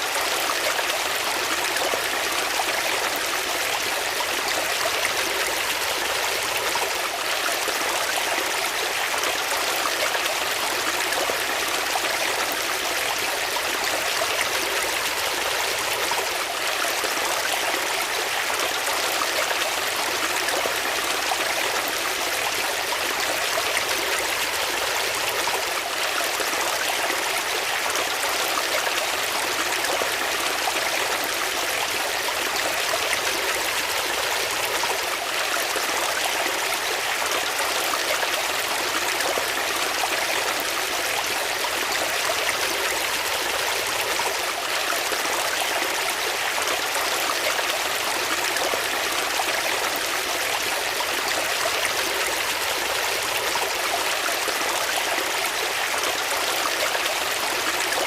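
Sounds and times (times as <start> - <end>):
stream water flowing: 0.0 - 58.0.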